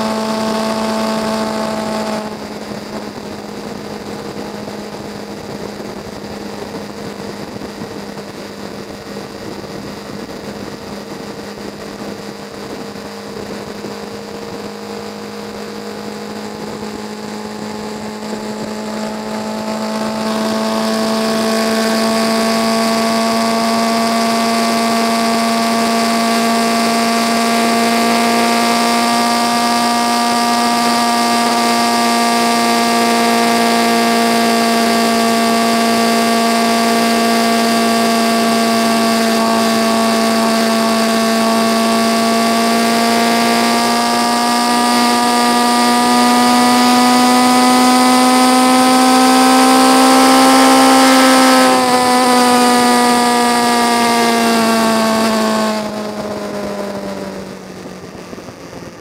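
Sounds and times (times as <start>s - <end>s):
motorcycle engine cruising: 0.0s - 59.0s
wind and road rush: 0.0s - 59.0s.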